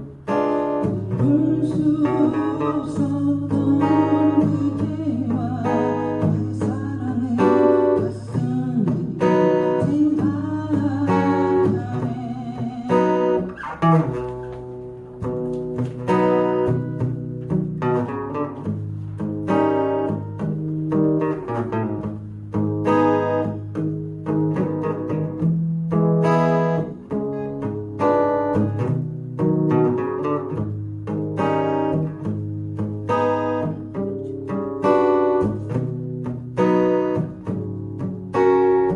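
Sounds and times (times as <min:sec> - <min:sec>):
guitar strumming palm-muted chords: 0:00.0 - 0:38.9.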